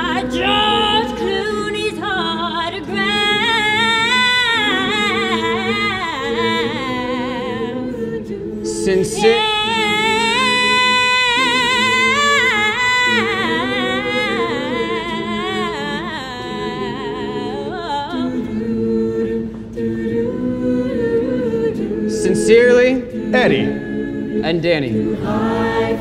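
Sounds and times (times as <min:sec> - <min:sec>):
woman singing with vibrato: 0:00.0 - 0:22.1
voices humming a chord: 0:00.0 - 0:26.0.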